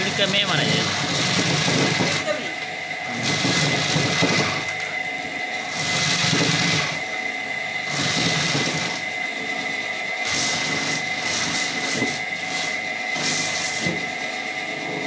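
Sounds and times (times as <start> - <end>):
electric motor whining: 0.0 - 15.0
maize cob rasping on roller: 0.0 - 15.0.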